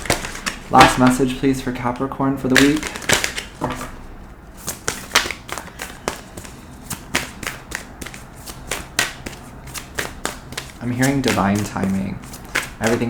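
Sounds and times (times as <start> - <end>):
cards being shuffled: 0.0 - 1.2, 2.5 - 4.0, 4.6 - 13.0.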